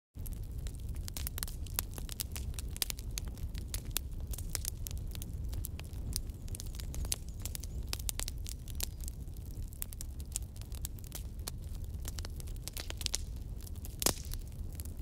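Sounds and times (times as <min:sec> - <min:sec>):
bonfire logs crackling and popping: 0:00.2 - 0:15.0
fire low rumble: 0:00.2 - 0:15.0.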